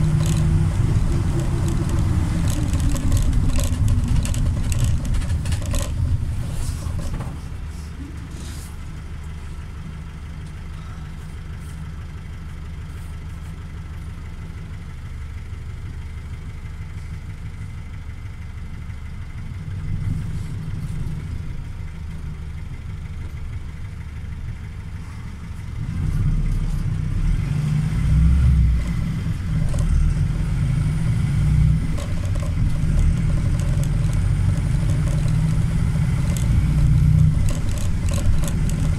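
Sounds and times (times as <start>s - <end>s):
diesel bus engine rumble: 0.0s - 38.9s.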